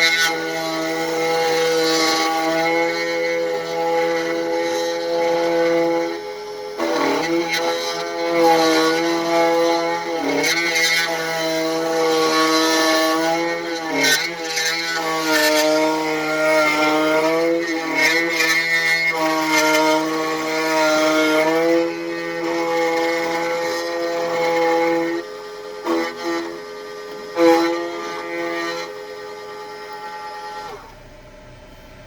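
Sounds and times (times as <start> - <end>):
key cutting machine whine: 0.0 - 32.0.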